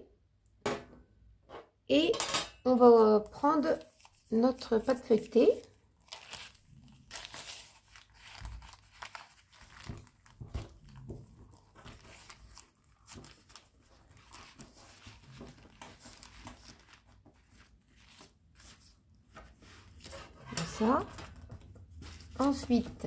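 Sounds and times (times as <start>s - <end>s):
baking paper crinkling: 3.0s - 23.0s.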